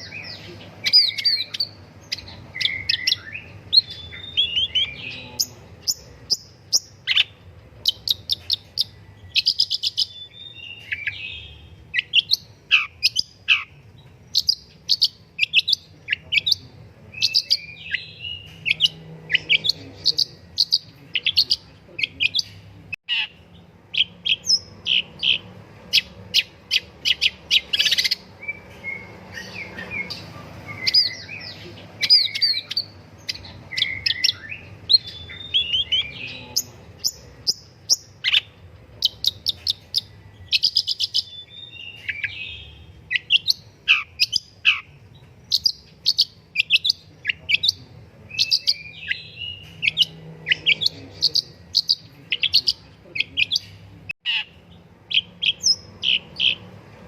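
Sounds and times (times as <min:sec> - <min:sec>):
bird singing chattering song: 0:00.0 - 0:57.0.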